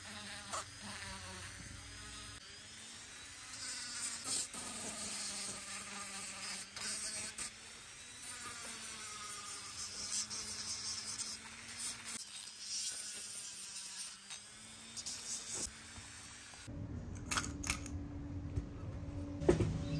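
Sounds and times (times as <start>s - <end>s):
rotary tool whining: 0.0s - 16.7s.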